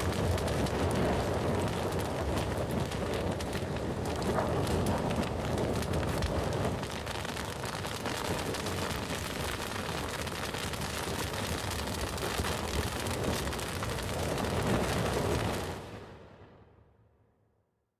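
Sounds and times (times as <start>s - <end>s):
wood crackling and popping: 0.0s - 15.9s
campfire flames rushing: 0.0s - 16.2s.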